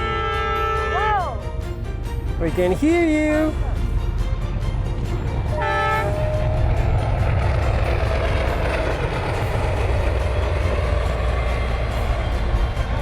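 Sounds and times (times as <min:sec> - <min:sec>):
train passing close by: 0:00.0 - 0:13.0.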